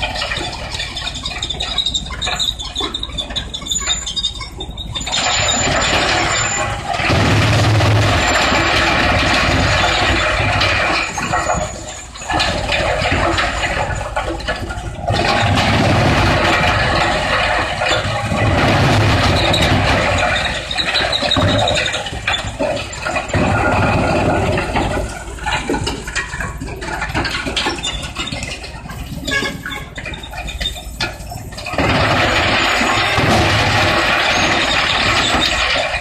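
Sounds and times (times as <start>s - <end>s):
wood shredder grinding and crunching: 5.0s - 30.2s, 31.6s - 36.0s.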